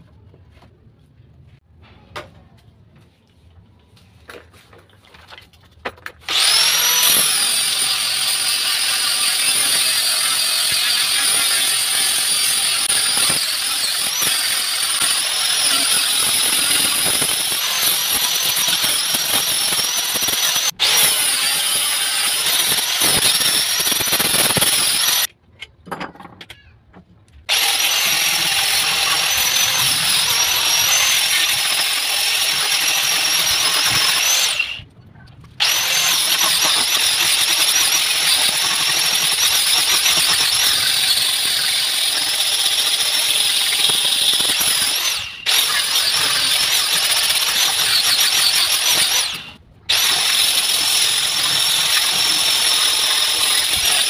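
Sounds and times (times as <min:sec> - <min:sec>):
angle grinder whining on wood: 0:06.3 - 0:25.3, 0:27.5 - 0:34.8, 0:35.6 - 0:54.0.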